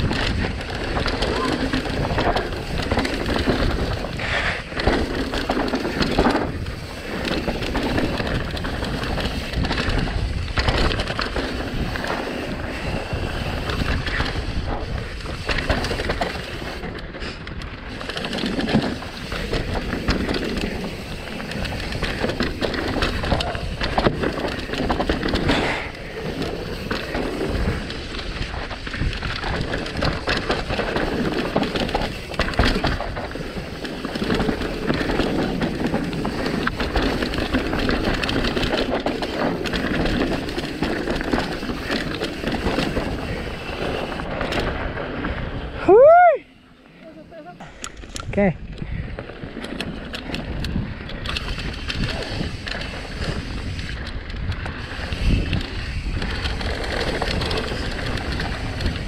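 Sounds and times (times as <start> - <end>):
bike rattling: 0.0 - 59.0
bike tyres grinding over stones: 0.0 - 59.0.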